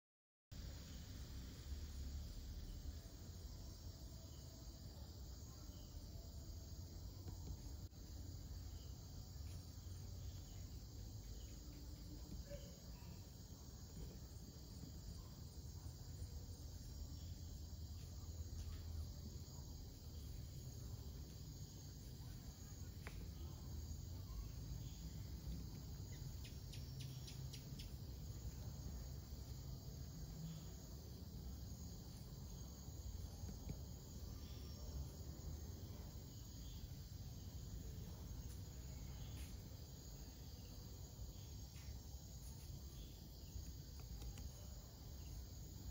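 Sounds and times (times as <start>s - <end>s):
night insects chirring: 0.6s - 45.9s.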